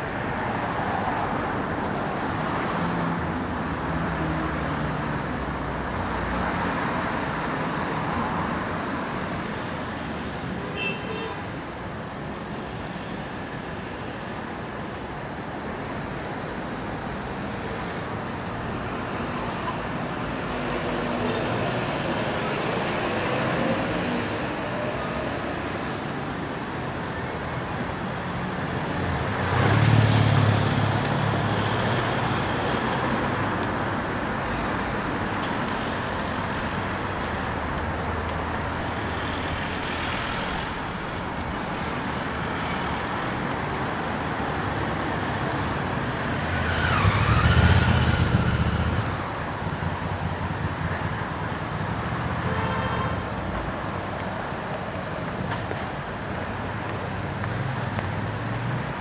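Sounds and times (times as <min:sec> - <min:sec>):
city street traffic: 0:00.0 - 0:59.0
heavy vehicles passing close: 0:11.4 - 0:59.0.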